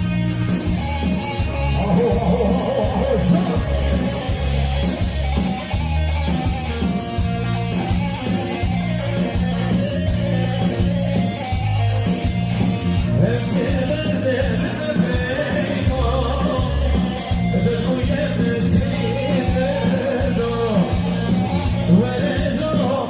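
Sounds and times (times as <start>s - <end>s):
instrumental band music: 0.0s - 23.0s
plucked string lead: 0.0s - 23.0s.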